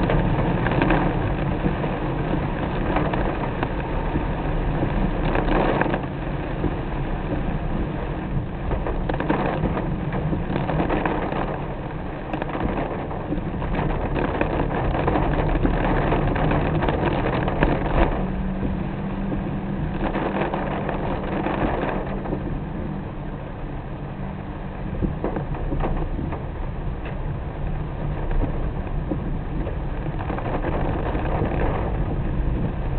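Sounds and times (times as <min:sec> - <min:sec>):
low steady hum: 0:00.0 - 0:32.9
rain on car: 0:00.0 - 0:32.9
road and engine noise: 0:00.0 - 0:32.9.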